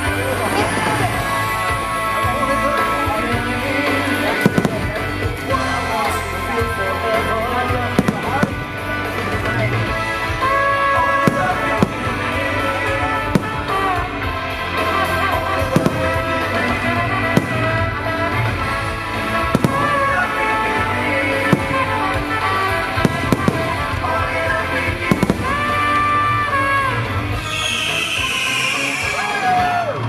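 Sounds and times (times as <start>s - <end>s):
fireworks bangs: 0.0s - 29.6s
loud music: 0.0s - 30.0s.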